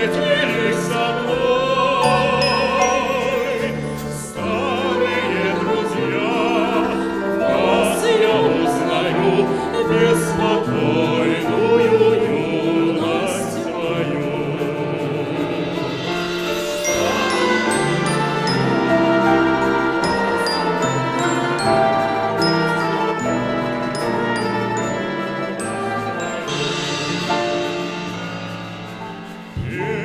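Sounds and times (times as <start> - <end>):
choir singing: 0.0 - 30.0.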